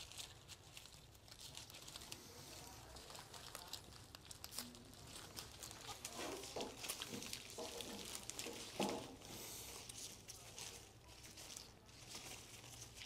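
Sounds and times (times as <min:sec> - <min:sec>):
flower stems rustling and crackling: 0:00.0 - 0:13.0.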